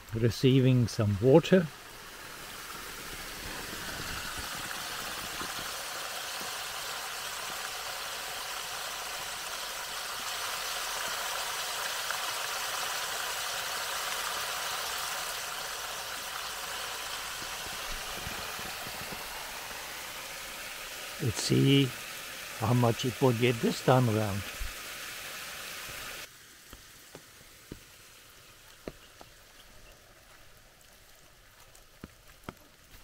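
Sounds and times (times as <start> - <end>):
water pouring and splashing: 0.9 - 33.0.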